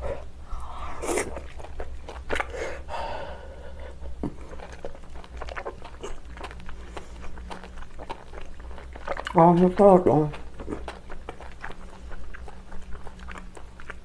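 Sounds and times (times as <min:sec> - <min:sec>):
chewing with wet mouth clicks: 0:00.2 - 0:02.9, 0:04.0 - 0:14.0.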